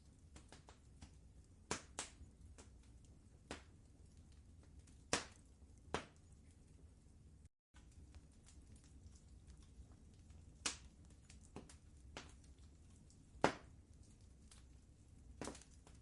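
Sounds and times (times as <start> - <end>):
wood fire crackling: 0.0 - 16.0
fire pops and snaps: 0.1 - 6.4, 7.8 - 16.0.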